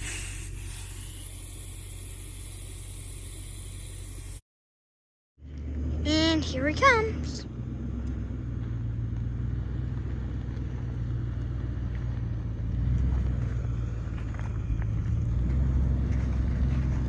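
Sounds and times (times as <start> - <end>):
vehicle engine rumbling: 0.0 - 4.4, 5.4 - 17.0.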